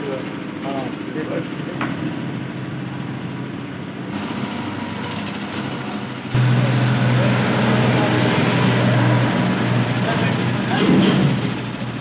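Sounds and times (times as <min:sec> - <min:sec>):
machine running steadily: 0:00.0 - 0:12.0
loud deep drone: 0:01.7 - 0:12.0.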